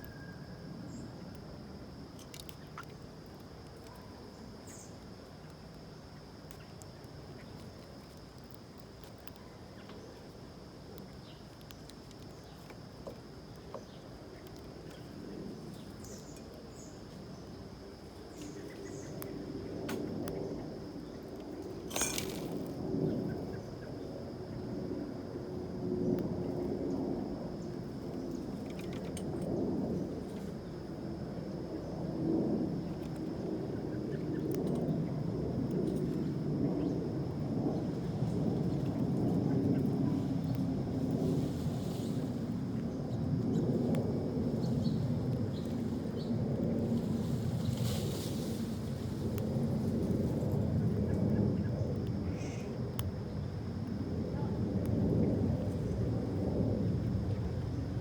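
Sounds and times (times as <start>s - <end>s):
steady high-pitched whine: 0.0s - 58.0s.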